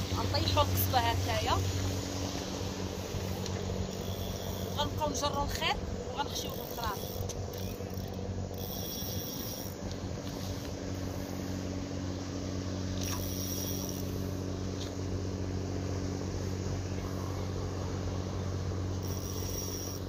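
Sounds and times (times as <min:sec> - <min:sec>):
engine droning steadily: 0:00.0 - 0:20.0.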